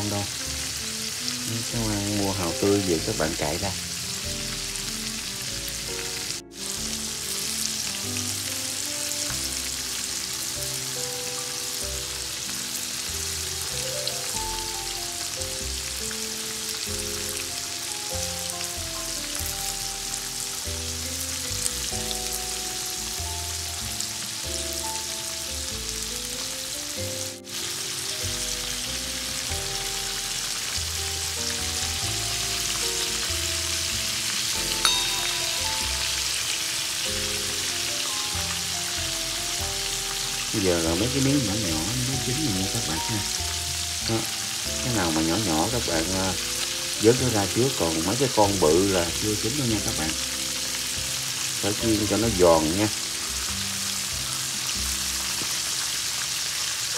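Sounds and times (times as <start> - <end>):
food sizzling in hot oil: 0.0 - 56.9
soft background music: 0.0 - 56.9.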